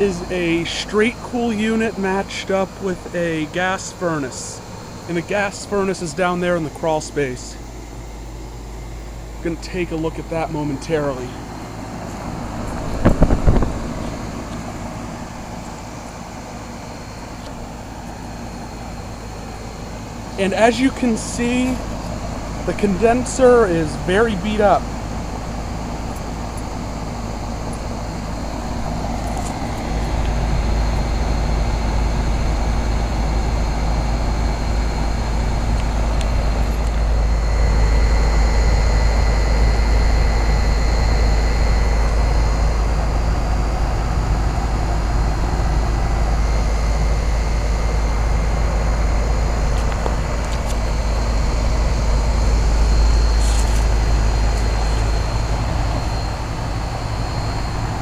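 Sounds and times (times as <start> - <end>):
air conditioner unit humming: 0.0 - 58.0.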